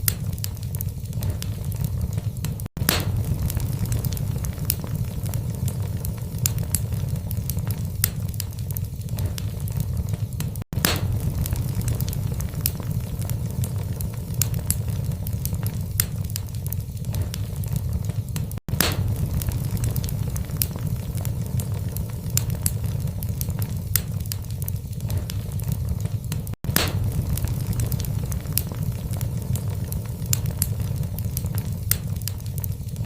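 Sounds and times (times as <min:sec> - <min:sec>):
fire flames rumbling: 0:00.0 - 0:33.0
logs crackling and popping: 0:00.0 - 0:33.0.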